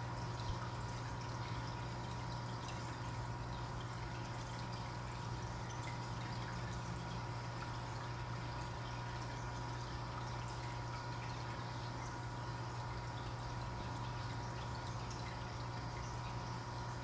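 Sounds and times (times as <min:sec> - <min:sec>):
aquarium filter bubbling: 0:00.0 - 0:17.0
constant low hum: 0:00.0 - 0:17.0.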